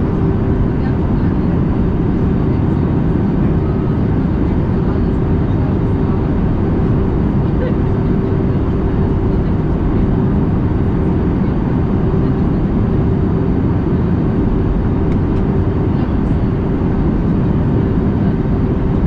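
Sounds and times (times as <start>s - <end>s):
aircraft cabin air and engine noise: 0.0s - 19.0s
constant low hum: 0.0s - 19.0s.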